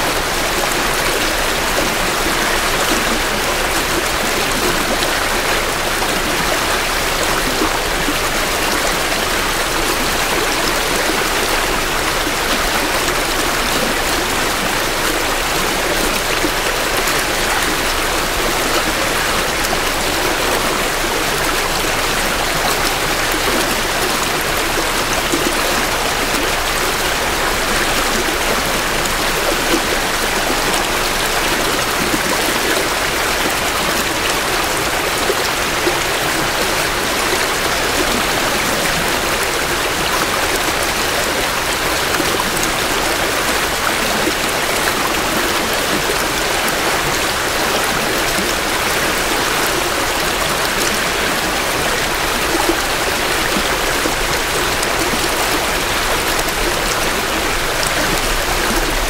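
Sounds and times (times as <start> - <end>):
creek water flowing over rocks: 0.0 - 59.0.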